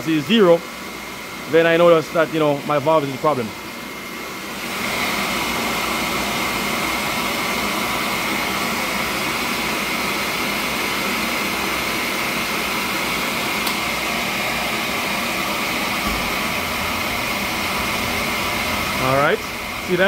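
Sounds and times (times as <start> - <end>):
burner blower rushing hum: 0.0 - 20.0.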